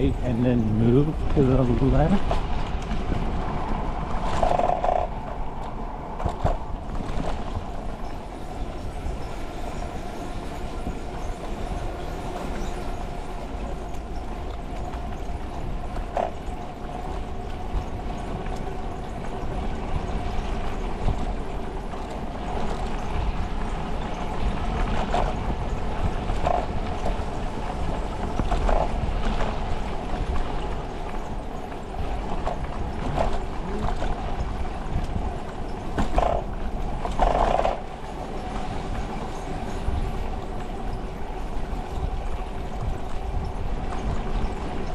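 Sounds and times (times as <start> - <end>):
bicycle tyre rumble: 0.0 - 44.9
constant hum: 0.0 - 44.9
wind noise while cycling: 0.0 - 44.9.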